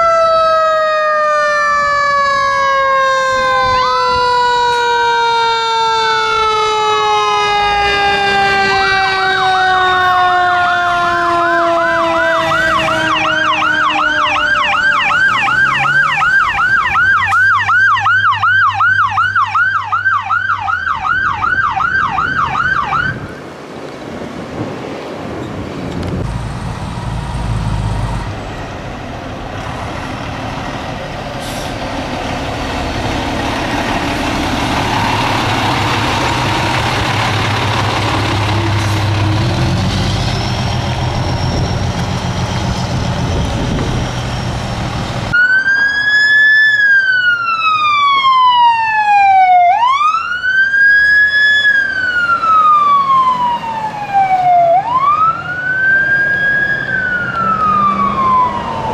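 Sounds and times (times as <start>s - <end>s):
siren wailing: 0.0s - 23.5s, 33.3s - 58.9s
fire engine passing: 0.0s - 58.9s.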